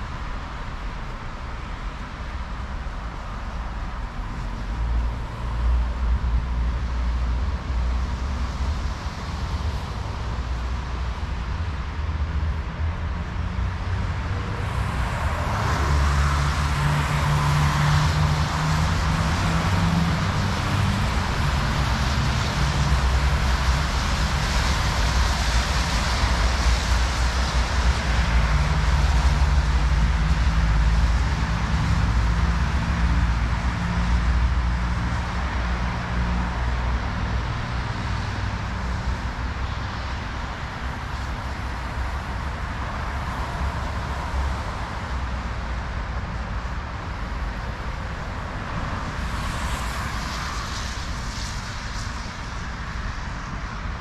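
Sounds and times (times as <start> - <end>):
road traffic engine rumble: 0.0 - 54.0.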